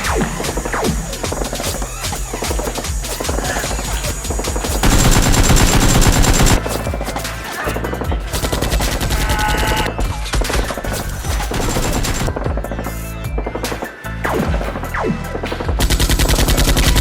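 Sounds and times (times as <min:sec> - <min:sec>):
rapid gunfire: 0:00.0 - 0:12.4, 0:15.8 - 0:17.0
background music: 0:00.0 - 0:17.0.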